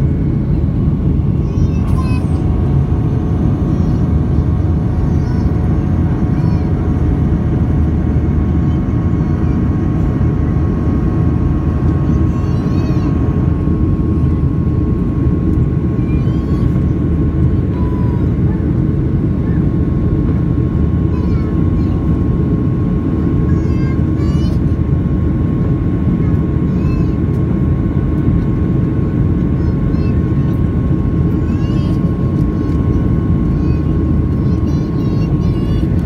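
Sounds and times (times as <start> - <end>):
jet cabin engine roar: 0.0 - 36.0.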